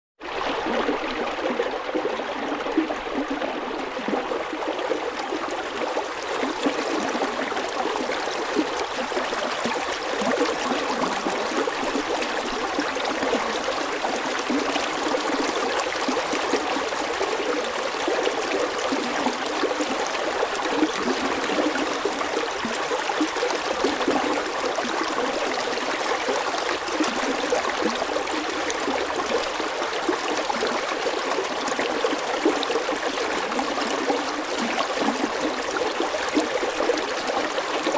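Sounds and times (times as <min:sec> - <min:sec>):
stream babbling and trickling: 0:00.2 - 0:37.9.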